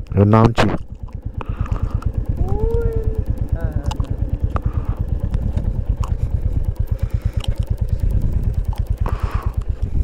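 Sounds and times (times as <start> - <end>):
motorcycle engine pulsing: 0.0 - 10.0.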